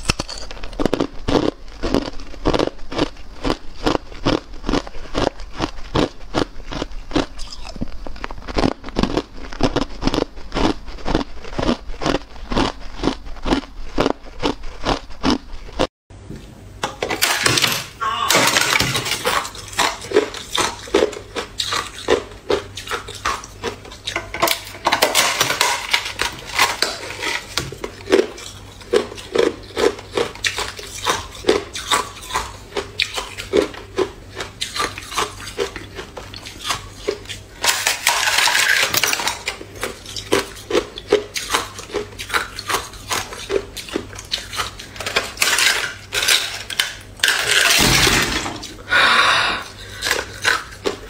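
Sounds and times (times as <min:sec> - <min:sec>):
ice crunching being chewed: 0:00.0 - 0:15.9, 0:19.2 - 0:47.8, 0:49.6 - 0:51.0.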